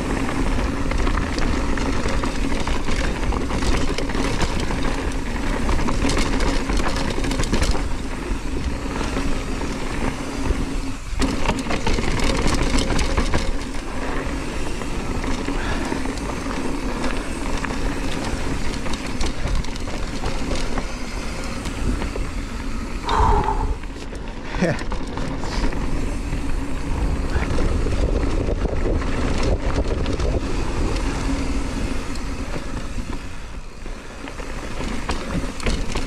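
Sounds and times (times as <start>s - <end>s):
bike clicks and rattles: 0.0s - 36.0s
bike tyres on dirt and gravel: 0.0s - 36.0s.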